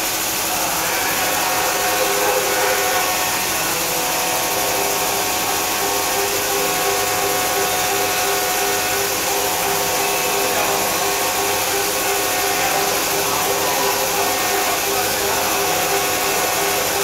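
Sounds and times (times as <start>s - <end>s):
coolant spray hiss: 0.0s - 17.0s
milling machine spindle running: 0.0s - 17.0s.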